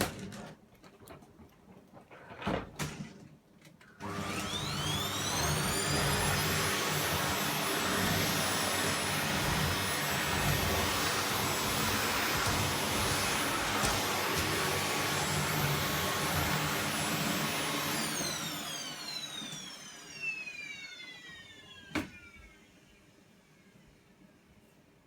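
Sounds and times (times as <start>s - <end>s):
vacuum cleaner running: 4.0s - 24.1s.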